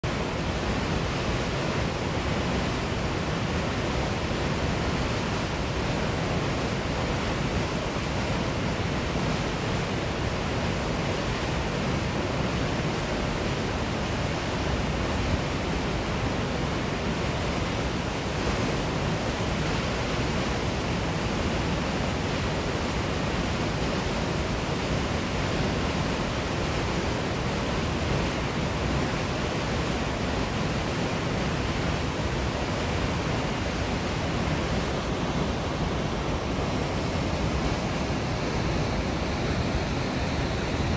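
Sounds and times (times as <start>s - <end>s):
waterfall rushing: 0.1s - 40.9s.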